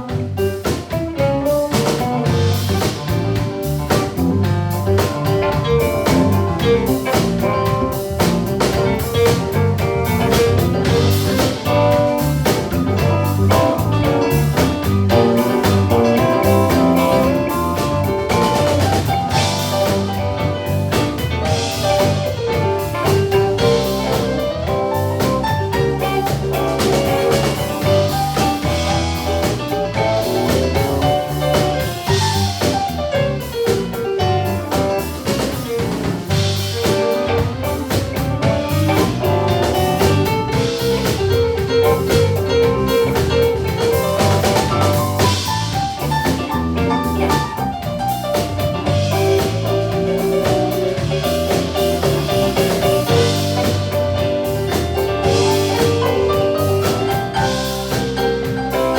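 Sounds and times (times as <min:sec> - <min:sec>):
drum kit steady beat: 0:00.0 - 0:58.9
live blues band playing: 0:00.0 - 0:58.9.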